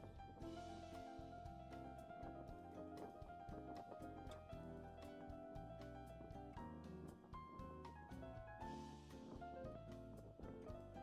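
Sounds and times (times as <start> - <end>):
instrumental music with light beat: 0.0 - 11.0.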